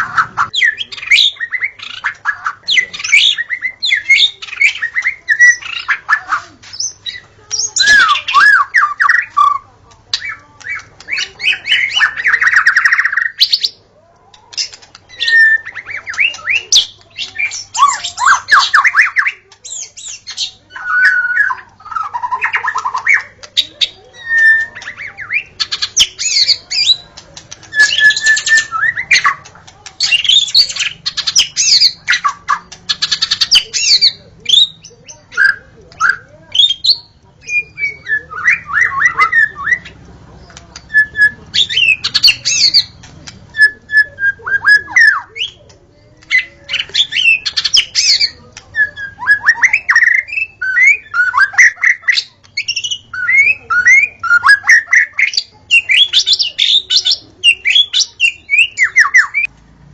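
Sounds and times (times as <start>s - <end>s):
bird singing whistles and trills: 0.0s - 6.1s, 6.8s - 13.8s, 14.6s - 27.1s, 27.7s - 40.0s, 40.8s - 42.9s, 43.5s - 45.7s, 46.3s - 59.5s.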